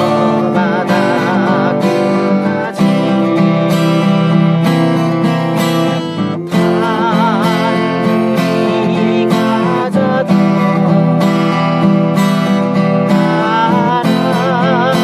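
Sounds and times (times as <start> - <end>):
acoustic guitar strumming: 0.0 - 15.0
wavering melody line: 0.0 - 15.0.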